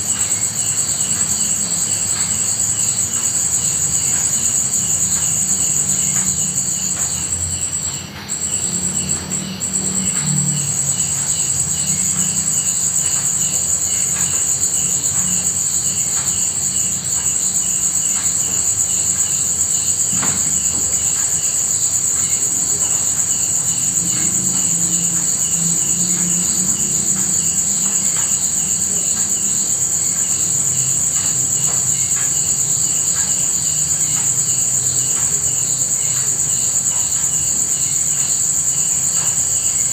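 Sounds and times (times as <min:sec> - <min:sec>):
insect chirp pulsing: 0:00.0 - 0:39.9
insects trilling: 0:00.0 - 0:39.9.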